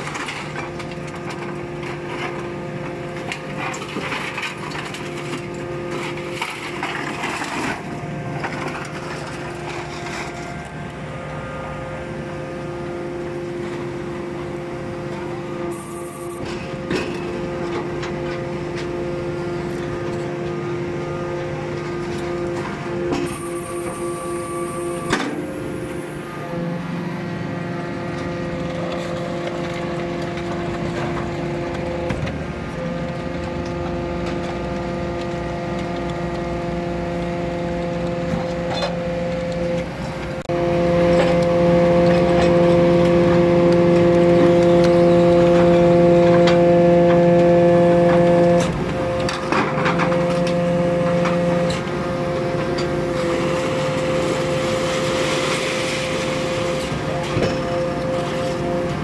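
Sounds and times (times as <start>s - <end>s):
hydraulic pump whine: 0.0s - 59.0s.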